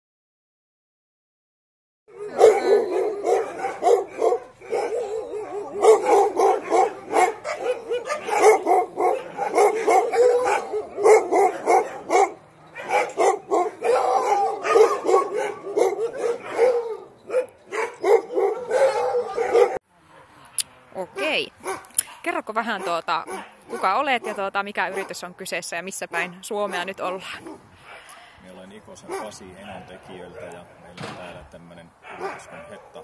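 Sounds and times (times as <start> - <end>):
dogs barking and howling: 2.1 - 20.4, 21.1 - 25.3, 26.1 - 31.2, 31.9 - 33.0.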